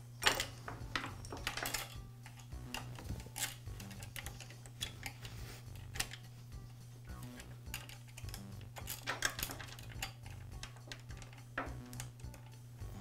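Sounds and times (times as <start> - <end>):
saw chain clinking and rattling: 0.2 - 6.3, 7.6 - 12.6.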